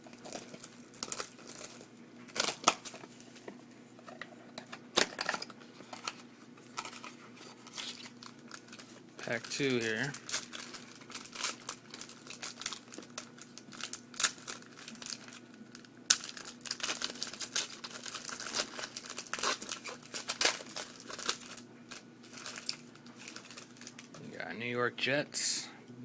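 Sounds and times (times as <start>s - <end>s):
card wrapper crinkling and tearing: 0.0s - 3.4s, 4.9s - 24.3s.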